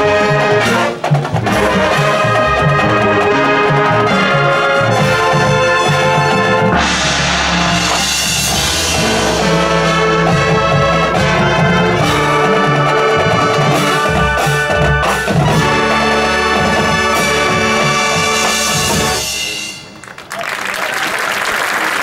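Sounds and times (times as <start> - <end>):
heavy drum strokes: 0.0 - 20.1
brass sustained chords: 0.0 - 20.2.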